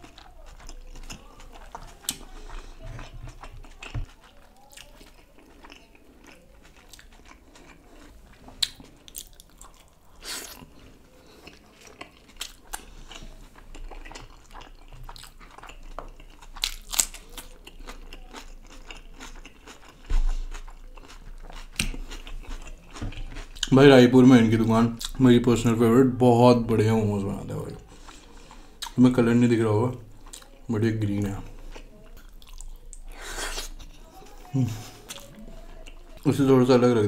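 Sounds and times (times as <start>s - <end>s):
wet chewing mouth sounds: 0.0s - 23.8s, 27.8s - 29.0s, 30.0s - 36.3s.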